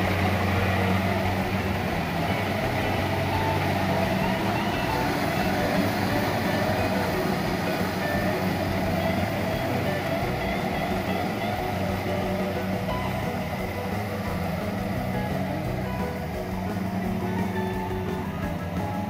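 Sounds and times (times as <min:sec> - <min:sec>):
combine harvester engine hum: 0:00.0 - 0:19.0
threshing machinery rattle: 0:00.0 - 0:19.0.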